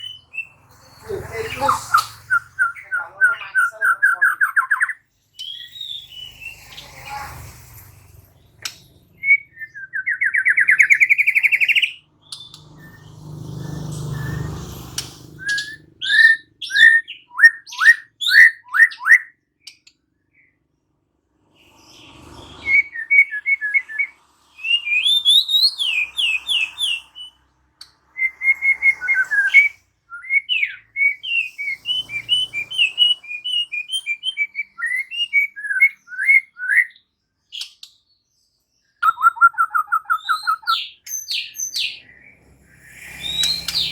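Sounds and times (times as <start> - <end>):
bird singing trills and whistles: 0.0 - 7.5, 8.4 - 20.5, 21.6 - 43.9.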